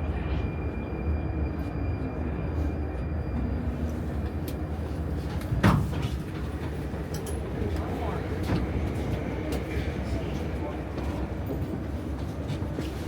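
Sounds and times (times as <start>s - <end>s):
metro train rumble: 0.0s - 13.0s.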